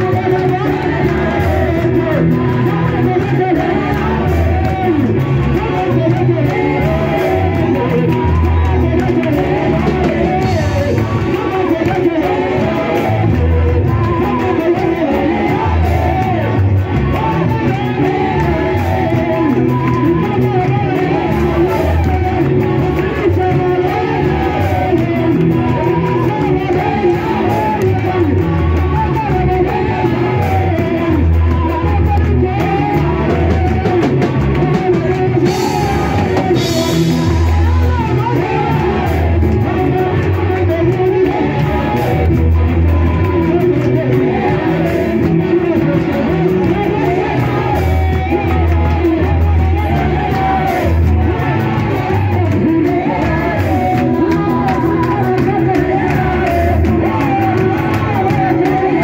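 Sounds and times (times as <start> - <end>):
group singing gospel: 0.0 - 59.0
keyboard: 0.0 - 59.0.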